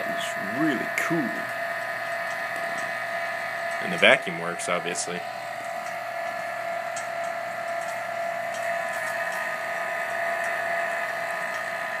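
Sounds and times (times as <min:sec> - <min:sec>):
vacuum pump and transformer hum: 0:00.0 - 0:12.0.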